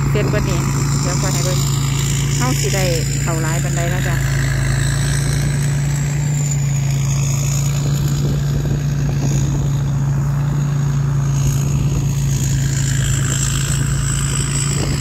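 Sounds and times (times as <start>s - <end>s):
harvester engine humming: 0.0s - 15.0s.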